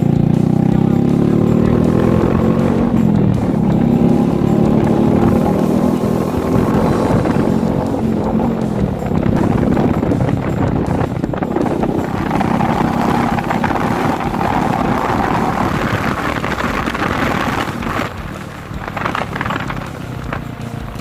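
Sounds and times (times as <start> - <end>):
motorcycle engine running loud: 0.0 - 21.0
wind buffeting microphone: 1.6 - 21.0.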